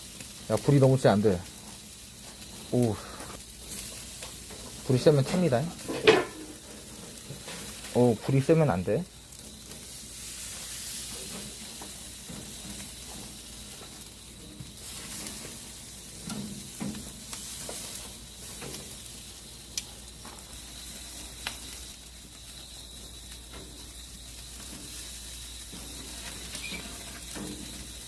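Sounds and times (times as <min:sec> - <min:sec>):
fat hissing on fire: 0:00.0 - 0:28.0
meat sizzling on a grill: 0:00.0 - 0:28.0
sharp crackles: 0:00.0 - 0:28.0.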